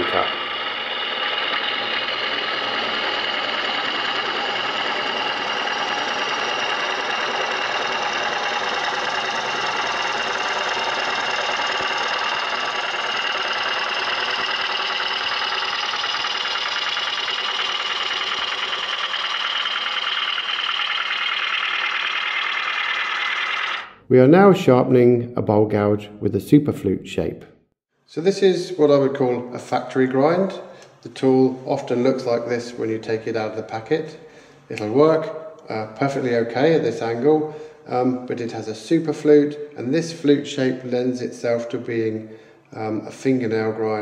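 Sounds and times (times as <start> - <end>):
lathe gouge cutting wood: 0.0 - 24.0, 28.9 - 34.2, 34.8 - 44.0.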